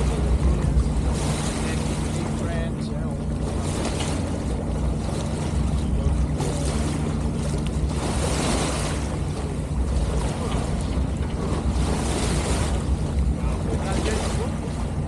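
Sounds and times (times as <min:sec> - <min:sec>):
steady low hum: 0:00.0 - 0:15.0
water rushing along a hull: 0:00.0 - 0:15.0.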